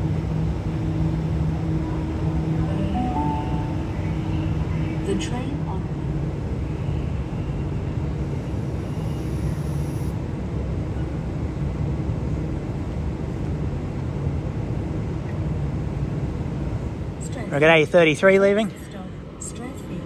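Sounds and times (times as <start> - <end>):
electric train humming: 0.0 - 20.0.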